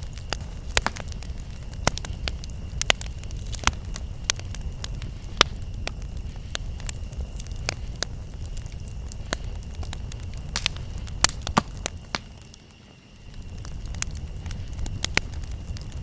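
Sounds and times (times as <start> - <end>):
campfire crackling and popping: 0.0 - 16.0
high insect tone: 0.0 - 16.0.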